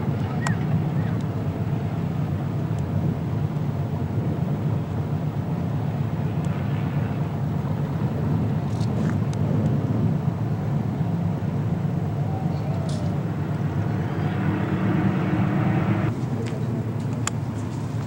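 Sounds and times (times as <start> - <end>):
distant race car engines droning: 0.0 - 18.0.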